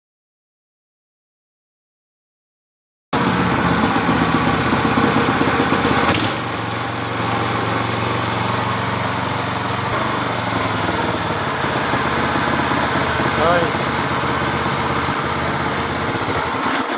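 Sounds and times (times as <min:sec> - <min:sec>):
small engine running: 0:03.2 - 0:16.9.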